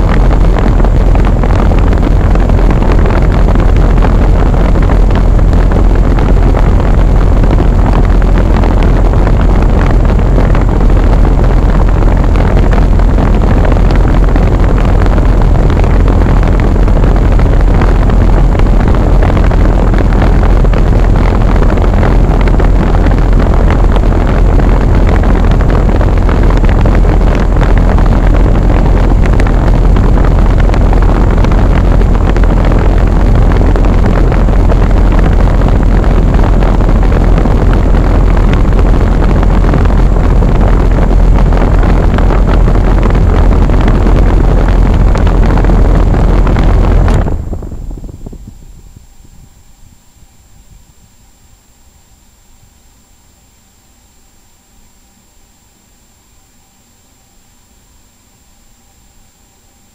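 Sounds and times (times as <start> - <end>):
air conditioner fan rushing: 0.0 - 59.9.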